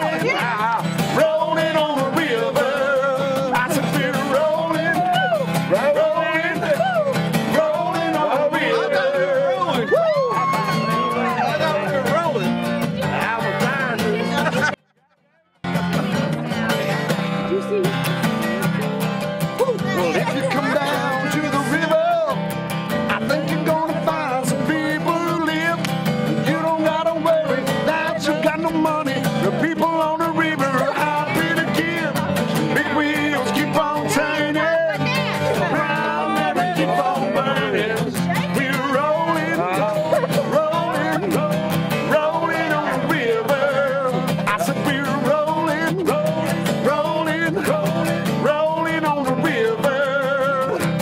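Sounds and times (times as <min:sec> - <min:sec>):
man singing: 0:00.0 - 0:14.8, 0:19.6 - 0:51.0
acoustic guitar strumming: 0:00.0 - 0:51.0.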